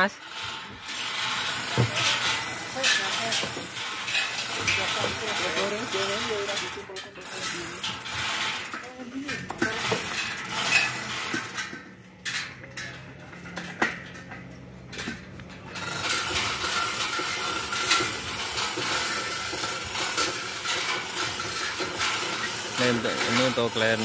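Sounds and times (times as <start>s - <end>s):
outdoor background noise: 0.0s - 24.0s
metal chain clinks and knocks: 0.2s - 24.0s.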